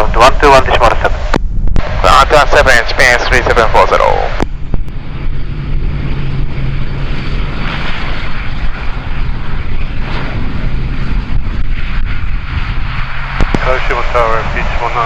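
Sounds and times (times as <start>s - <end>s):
airliner engines rushing: 0.0s - 15.0s.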